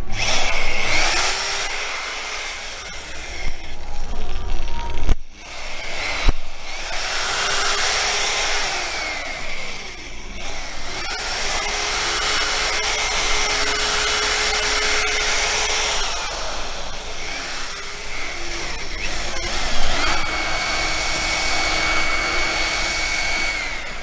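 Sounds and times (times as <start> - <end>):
rotary polisher motor whine: 0.0 - 24.0.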